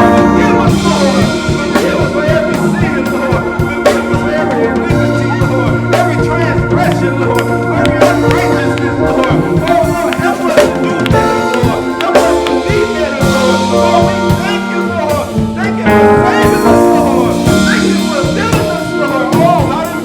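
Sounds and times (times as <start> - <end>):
drum kit groove: 0.0 - 20.0
sustained organ chords: 0.0 - 20.0.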